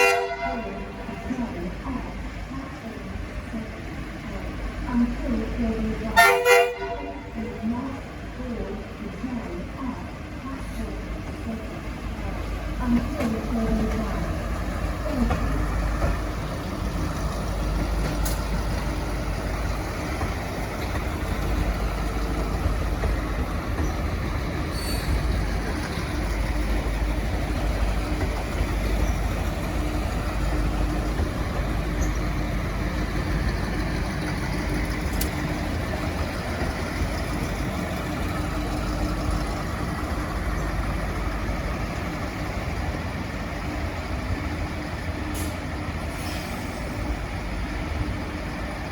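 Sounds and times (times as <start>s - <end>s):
diesel train engines rumbling: 0.0s - 48.9s.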